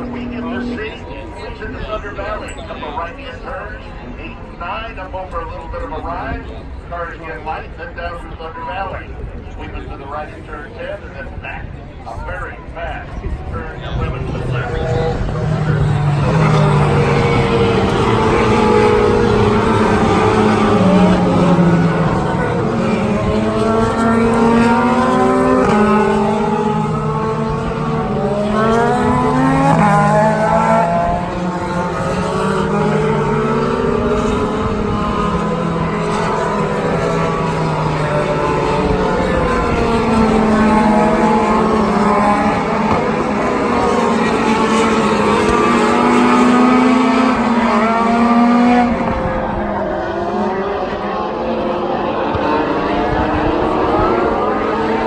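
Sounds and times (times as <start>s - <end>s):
race car engines accelerating past: 0.0s - 7.2s, 13.0s - 55.0s.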